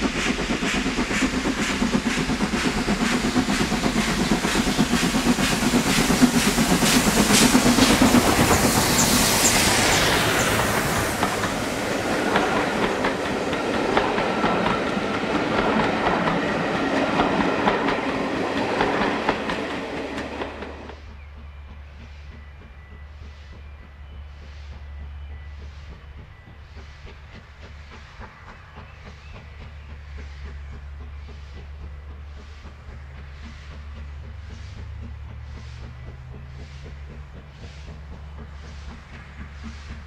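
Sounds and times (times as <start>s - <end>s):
train wheels clattering: 0.0s - 40.0s.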